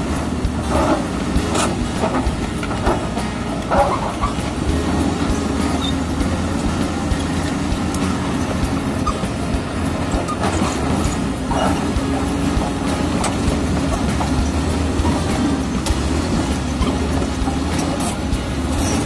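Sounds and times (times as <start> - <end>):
bulldozer diesel engine running: 0.0 - 19.0
steel tracks clanking: 0.0 - 19.0.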